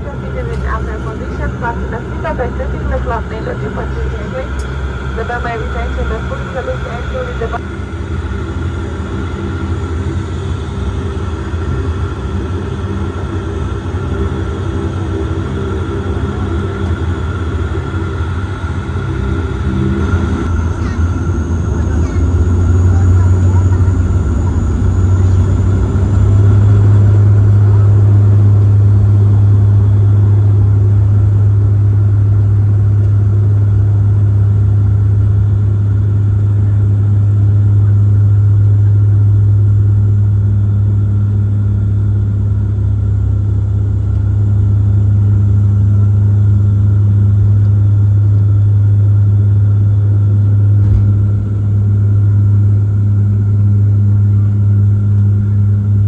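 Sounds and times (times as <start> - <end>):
high steady whine: 0.0 - 56.0
propeller drone in cabin: 0.0 - 56.0.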